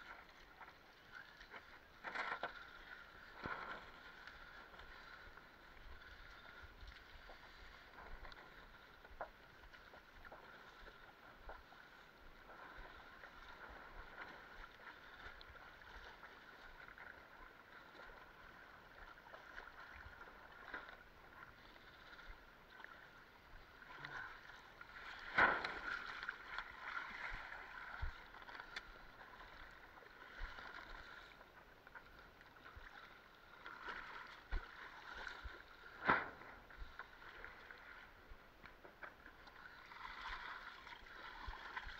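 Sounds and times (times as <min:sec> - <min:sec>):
water splashing against board hull: 0:00.0 - 0:37.9.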